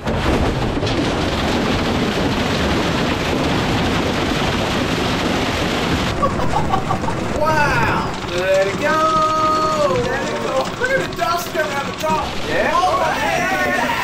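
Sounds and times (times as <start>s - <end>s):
blender shredding wood: 0.0s - 14.0s.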